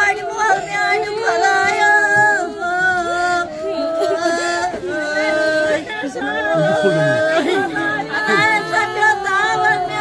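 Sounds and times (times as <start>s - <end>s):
faint background voices: 0.0s - 10.0s
woman singing long notes: 0.0s - 10.0s.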